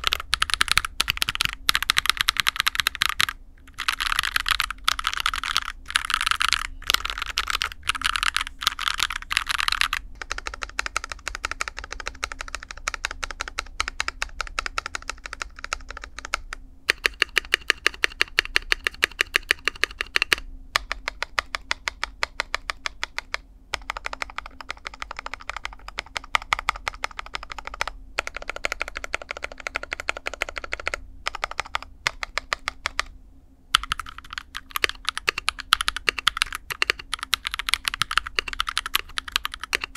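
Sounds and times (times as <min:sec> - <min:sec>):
mechanical keyboard typing: 0:00.0 - 0:33.1, 0:33.8 - 0:39.9.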